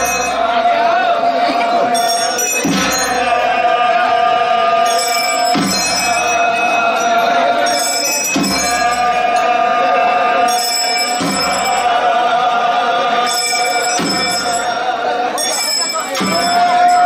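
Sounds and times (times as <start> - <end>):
hand bells ringing: 0.0 - 0.6, 1.4 - 17.0
priests chanting: 0.0 - 17.0.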